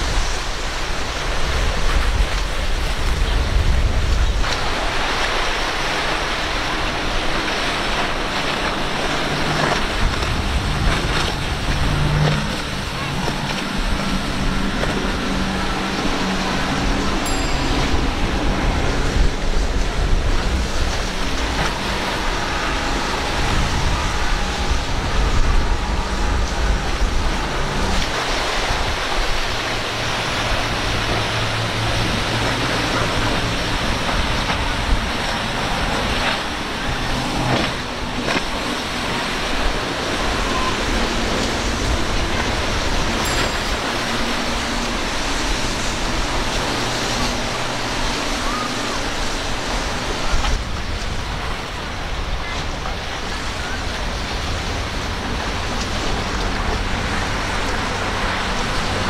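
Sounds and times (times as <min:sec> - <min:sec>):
hull spray and waves: 0:00.0 - 0:59.0
powerboat engine hum: 0:00.0 - 0:59.0.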